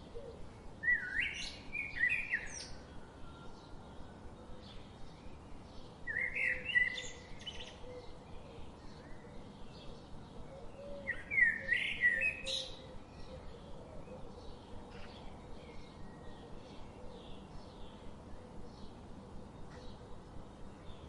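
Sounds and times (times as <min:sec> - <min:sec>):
faint background noise: 0:00.0 - 0:21.0.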